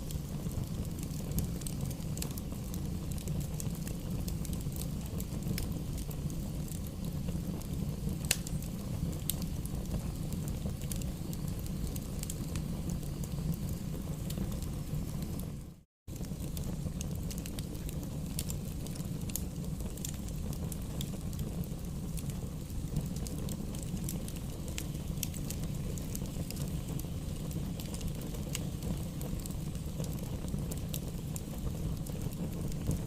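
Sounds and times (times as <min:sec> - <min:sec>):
fire crackling and popping: 0:00.0 - 0:33.0.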